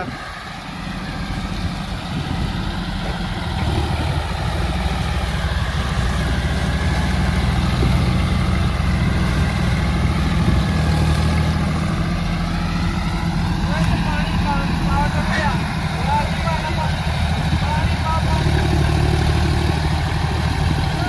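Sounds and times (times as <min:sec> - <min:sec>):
tractor engine under load: 0:00.0 - 0:21.0.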